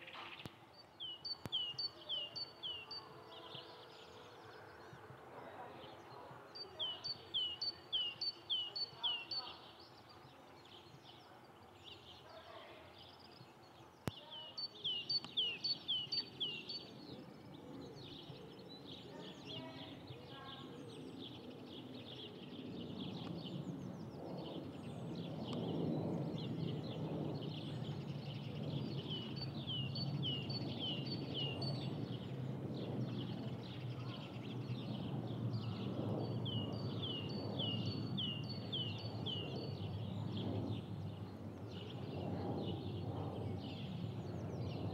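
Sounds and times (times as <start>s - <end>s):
distant jet airliner rumble: 0.0s - 44.9s
songbird singing: 0.0s - 44.9s.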